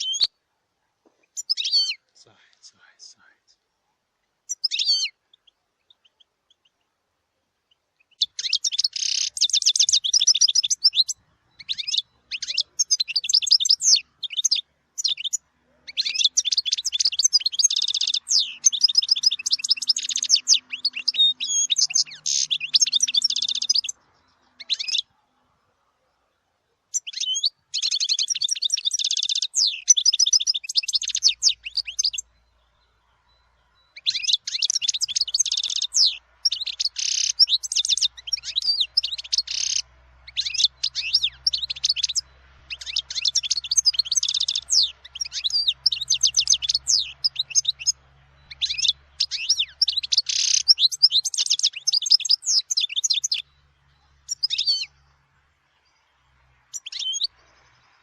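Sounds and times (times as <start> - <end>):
goldfinch twittering: 1.4 - 3.4, 4.5 - 6.8, 7.7 - 25.1, 26.9 - 55.0, 56.7 - 58.0.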